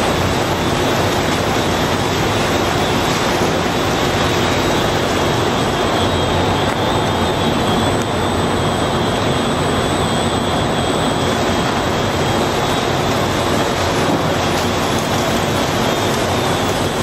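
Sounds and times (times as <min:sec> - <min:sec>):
conveyor line machinery noise: 0:00.0 - 0:17.0.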